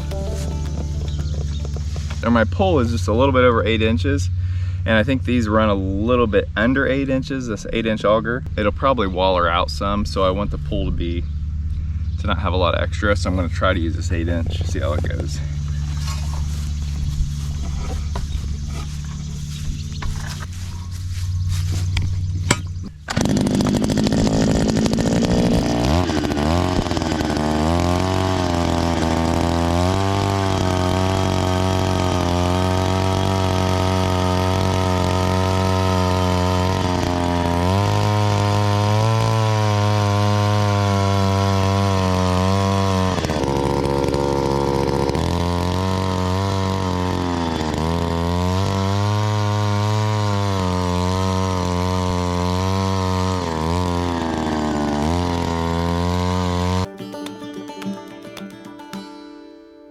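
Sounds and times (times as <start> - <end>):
auger engine running: 0.0 - 7.1, 9.5 - 56.9.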